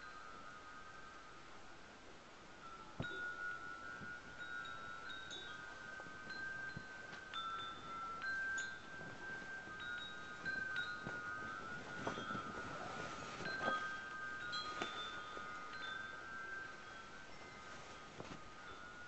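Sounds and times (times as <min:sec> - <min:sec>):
chimes ringing: 0:00.0 - 0:01.6, 0:02.6 - 0:19.0.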